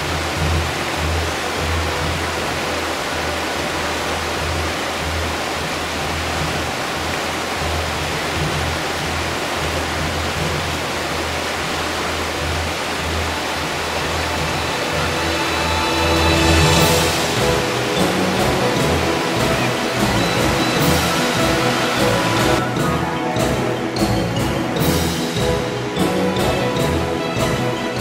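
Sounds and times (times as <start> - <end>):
background music: 0.0 - 28.0
river rapids rushing: 0.0 - 28.0.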